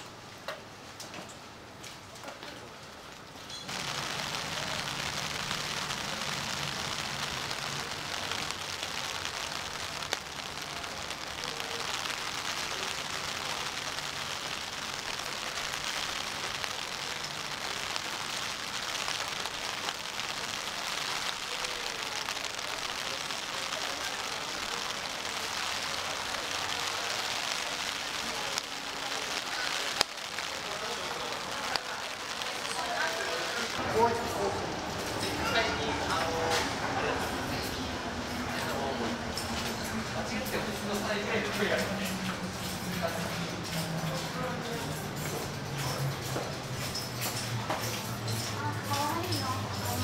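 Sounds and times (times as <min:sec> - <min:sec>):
rain on wet pavement: 0:00.0 - 0:50.0.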